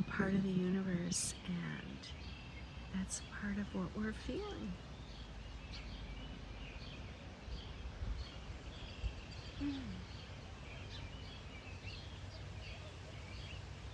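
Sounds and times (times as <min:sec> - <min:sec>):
low outdoor rumble: 0:00.0 - 0:13.9
small birds chirping: 0:00.0 - 0:13.9.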